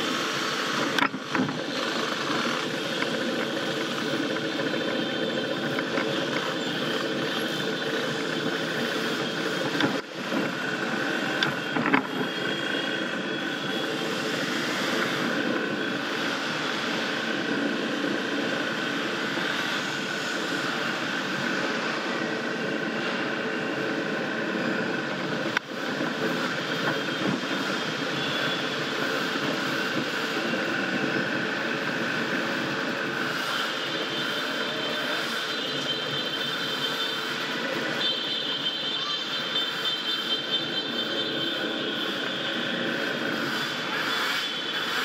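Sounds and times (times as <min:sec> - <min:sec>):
scooter engines running: 0:00.0 - 0:45.0.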